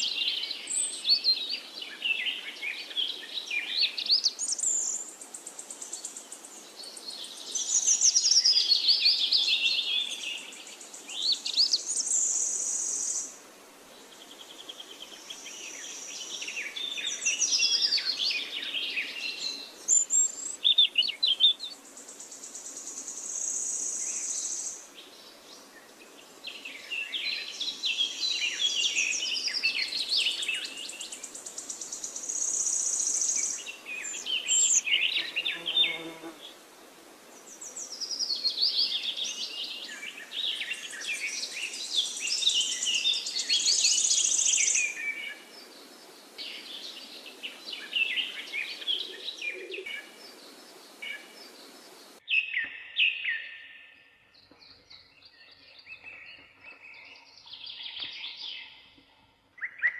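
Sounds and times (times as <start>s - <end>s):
forest ambience hiss: 0.0s - 52.3s, 53.2s - 59.8s
songbirds singing and chirping: 0.0s - 59.9s.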